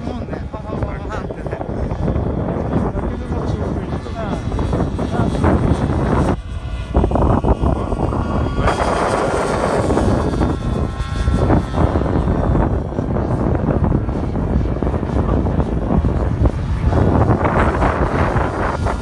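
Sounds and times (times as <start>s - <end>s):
model aircraft motor whining: 0.0s - 19.0s
wind buffeting microphone: 0.0s - 19.0s.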